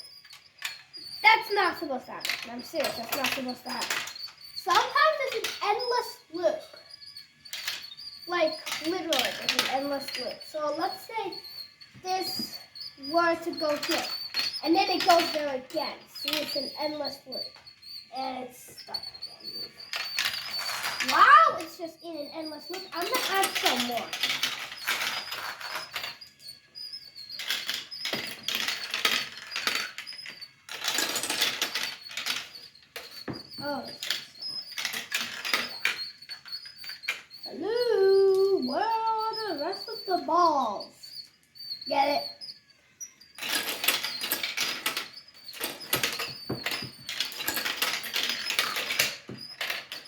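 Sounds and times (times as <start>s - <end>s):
faint high squeak: 0.0s - 50.0s
marbles clattering along track: 0.0s - 50.0s.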